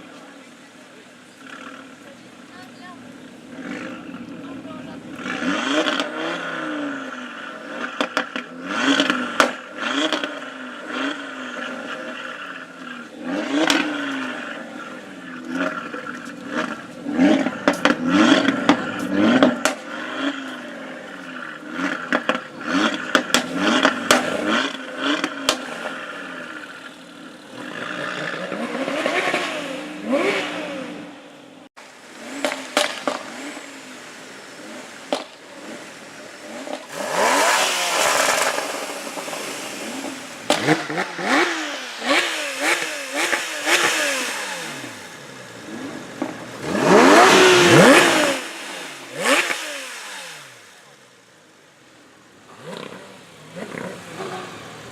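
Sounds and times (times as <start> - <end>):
exhaust pops and crackles: 0.0 - 30.4, 32.1 - 51.0
car engines revving: 0.0 - 54.9
engine idling drone: 0.0 - 54.9.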